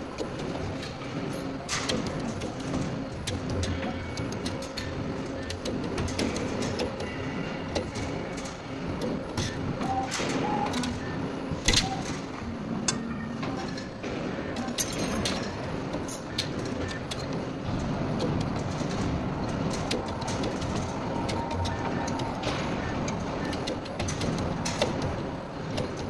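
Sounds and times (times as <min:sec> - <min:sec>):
machine clicks and clanks: 0:00.0 - 0:26.0
wire bending machine running: 0:00.0 - 0:26.0.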